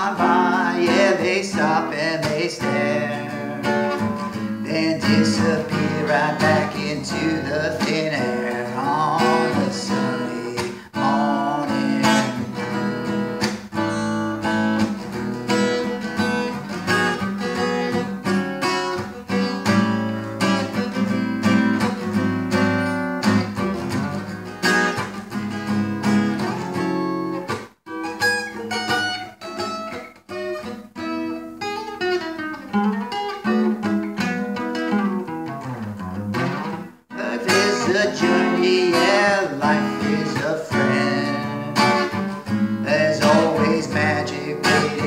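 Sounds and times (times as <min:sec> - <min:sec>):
acoustic guitar playing: 0:00.0 - 0:45.0.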